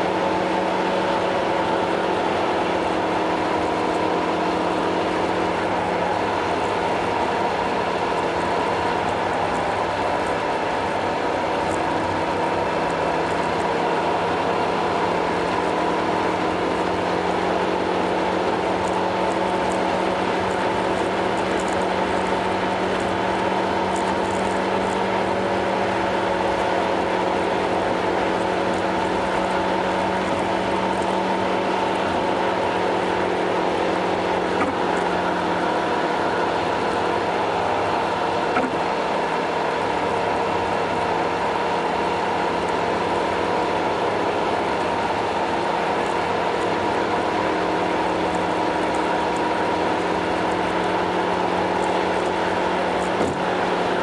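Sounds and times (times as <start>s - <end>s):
car driving drone: 0.0s - 54.0s.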